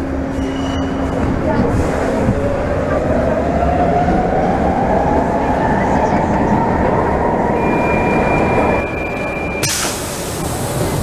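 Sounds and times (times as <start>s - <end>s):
rumble of running train: 0.0s - 11.0s.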